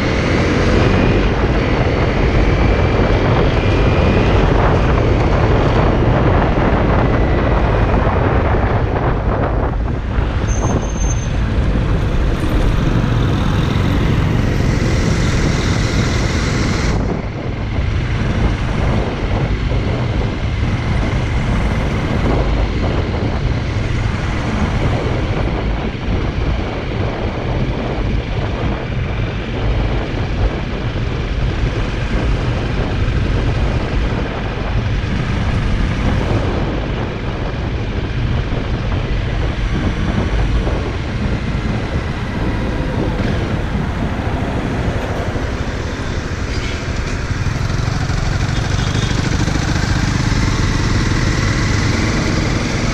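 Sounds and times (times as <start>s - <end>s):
motorcycle engine rumble: 0.0s - 52.9s
wind rushing over microphone: 0.0s - 52.9s.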